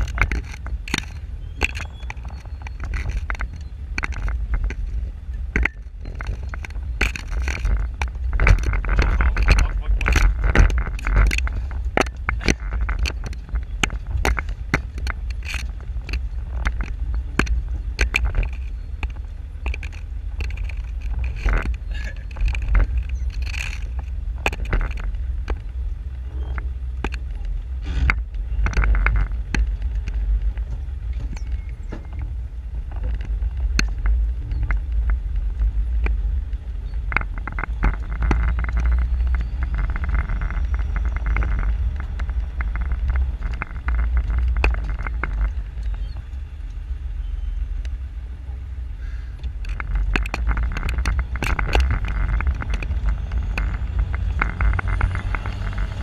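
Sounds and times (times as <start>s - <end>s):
knocks and rattles from bumps: 0.0s - 46.4s, 49.4s - 56.0s
vehicle low rumble: 0.0s - 56.0s.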